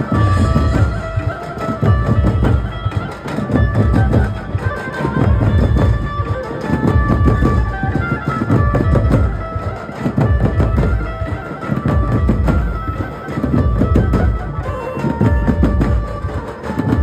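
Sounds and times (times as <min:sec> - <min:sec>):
band playing amplified traditional music: 0:00.0 - 0:17.0
heavy drum beats: 0:00.0 - 0:17.0.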